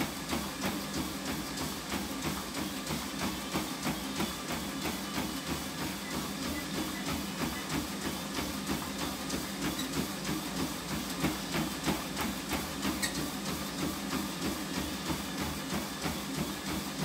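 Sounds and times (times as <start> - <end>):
running footfalls on treadmill: 0.0 - 17.0
treadmill motor hum: 0.0 - 17.0.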